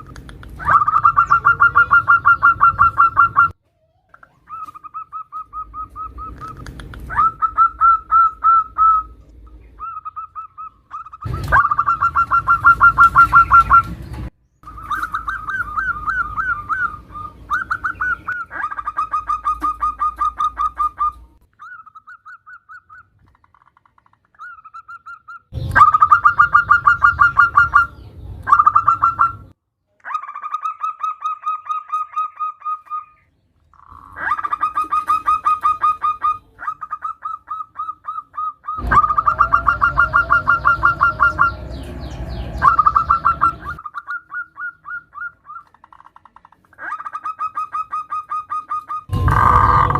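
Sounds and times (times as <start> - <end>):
dove calling staccato notes: 0.0 - 3.6, 4.2 - 29.6, 30.2 - 49.9.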